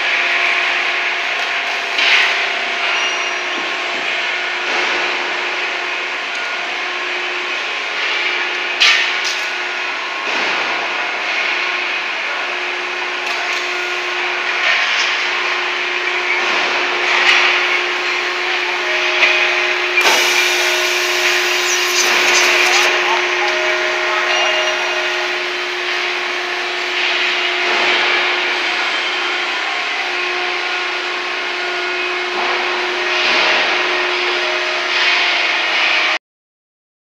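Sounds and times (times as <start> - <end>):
machinery humming: 0.0 - 36.2.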